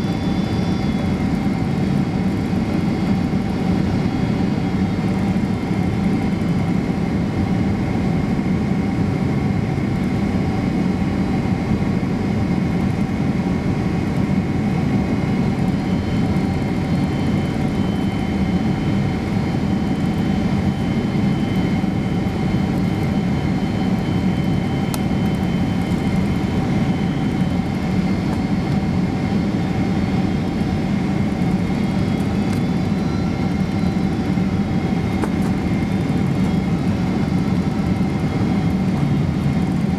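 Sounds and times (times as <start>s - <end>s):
airliner engine and airflow roar: 0.0s - 39.9s.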